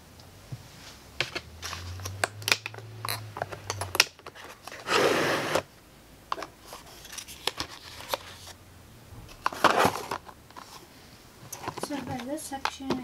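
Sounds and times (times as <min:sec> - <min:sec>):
rustling: 0:00.5 - 0:05.7, 0:06.3 - 0:08.6, 0:09.2 - 0:13.0.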